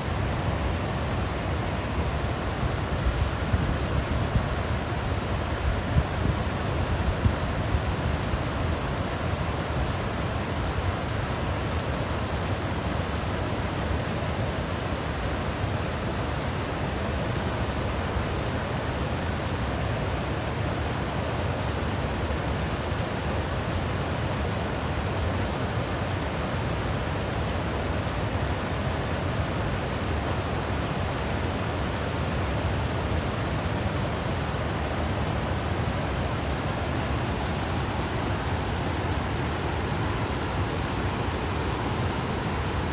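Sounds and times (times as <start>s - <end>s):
stream flowing over rocks: 0.0s - 42.9s.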